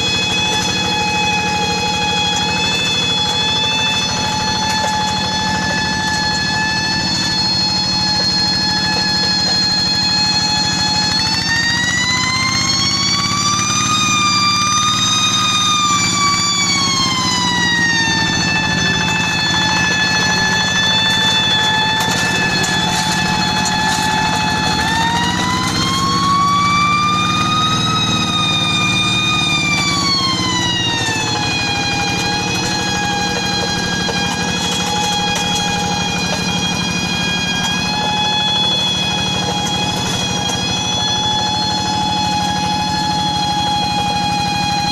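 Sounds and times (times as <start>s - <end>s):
high whine: 0.0s - 44.9s
tractor engine rumble: 0.0s - 44.9s.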